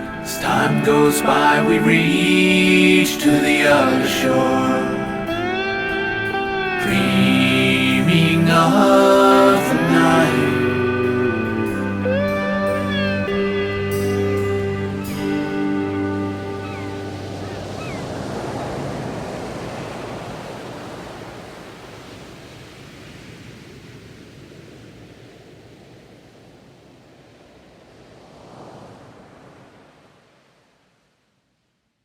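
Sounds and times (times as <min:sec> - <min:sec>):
surf waves breaking: 0:00.0 - 0:30.8.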